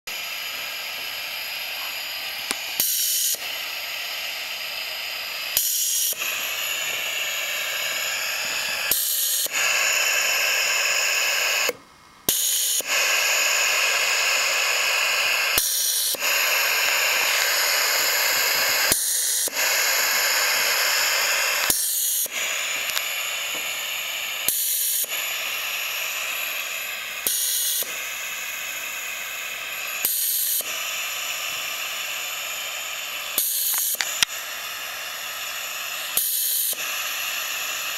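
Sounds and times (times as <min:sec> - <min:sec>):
compressed air hissing: 0:00.0 - 0:37.9
valve clicks: 0:00.3 - 0:37.9.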